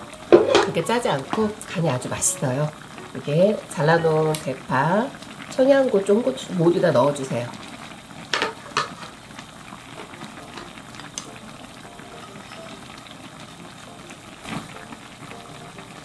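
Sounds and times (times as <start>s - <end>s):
stew bubbling in a pan: 0.0s - 16.0s.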